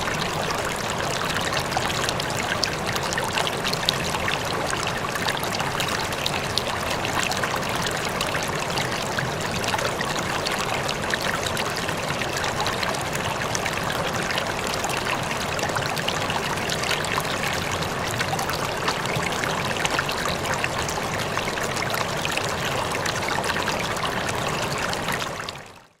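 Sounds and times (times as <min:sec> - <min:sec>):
water flowing over rocks: 0:00.0 - 0:26.0.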